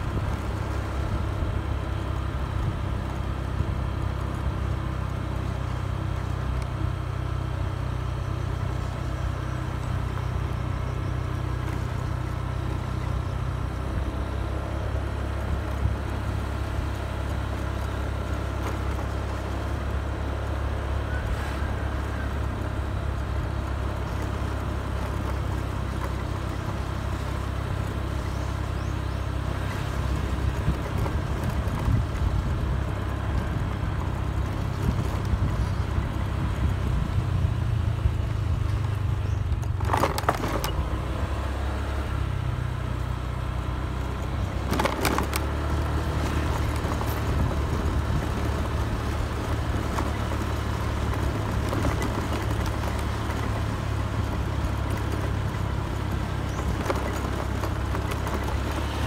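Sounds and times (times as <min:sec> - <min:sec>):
motorcycle engine rumble: 0:00.0 - 0:59.0
road and wind noise: 0:00.0 - 0:59.0.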